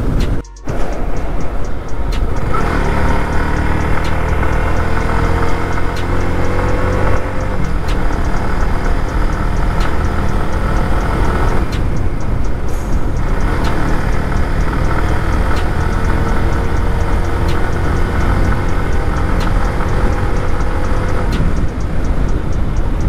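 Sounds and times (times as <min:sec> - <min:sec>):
motorcycle engine droning: 0:00.0 - 0:23.0.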